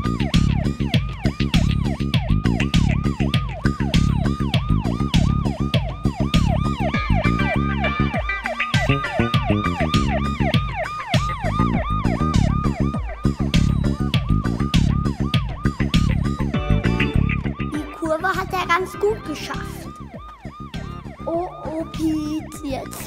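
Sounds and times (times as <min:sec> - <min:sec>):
background music with steady beat: 0:00.0 - 0:23.0
yelping police siren: 0:00.0 - 0:23.0.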